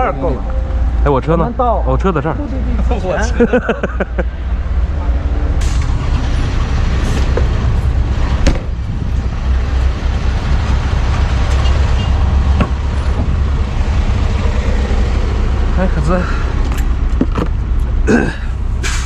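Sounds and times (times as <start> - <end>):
idling vehicle engines and traffic: 0.0 - 19.0.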